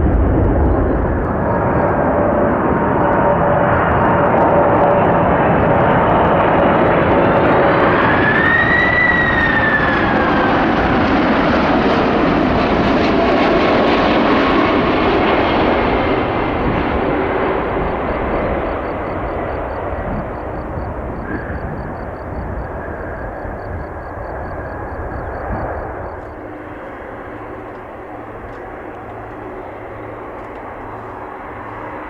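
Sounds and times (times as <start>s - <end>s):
jet airliner passing: 0.0s - 32.0s.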